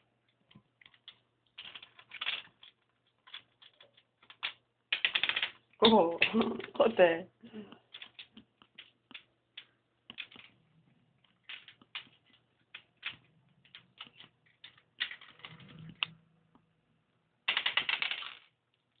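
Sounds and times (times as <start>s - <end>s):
plastic checkers clattering: 0.0s - 16.8s, 17.4s - 19.0s.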